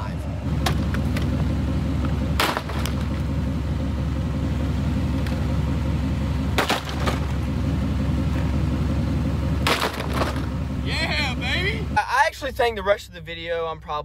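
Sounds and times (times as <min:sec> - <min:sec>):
truck engine rumbling: 0:00.0 - 0:14.0.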